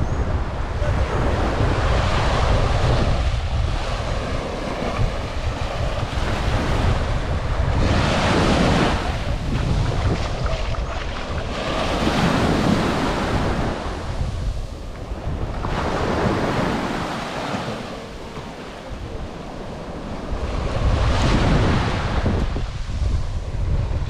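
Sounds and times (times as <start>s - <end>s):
wind buffeting microphone: 0.0s - 24.0s
sea waves washing onto shore: 0.4s - 24.0s.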